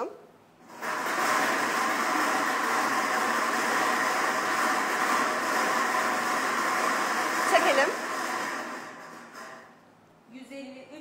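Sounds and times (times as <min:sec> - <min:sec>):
lottery balls churning rattle: 0:00.6 - 0:09.9.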